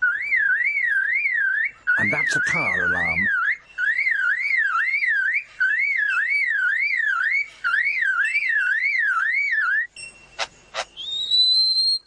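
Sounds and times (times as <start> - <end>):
lyrebird mimicking car alarm: 0.0 - 11.5.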